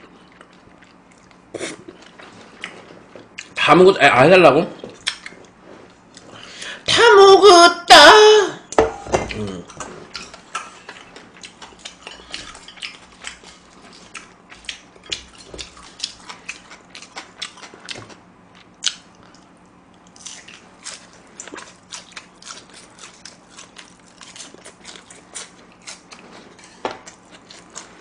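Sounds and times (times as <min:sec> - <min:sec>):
crunching and chewing food: 0:00.0 - 0:03.7, 0:04.6 - 0:06.6, 0:09.3 - 0:28.0.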